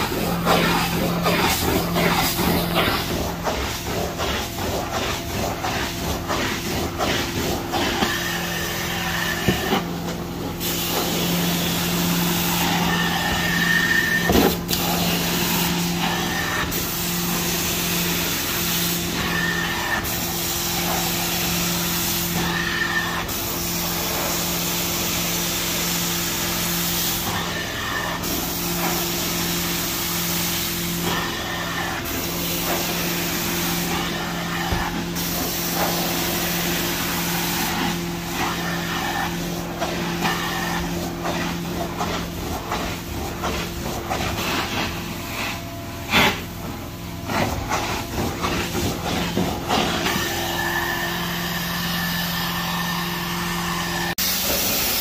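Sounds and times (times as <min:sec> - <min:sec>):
vacuum machine hum: 0:00.0 - 0:55.0.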